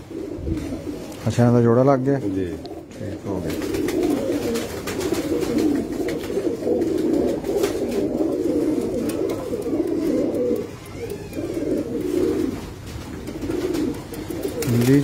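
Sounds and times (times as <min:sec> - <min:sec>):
pigeons cooing: 0:00.0 - 0:01.6, 0:02.2 - 0:15.0.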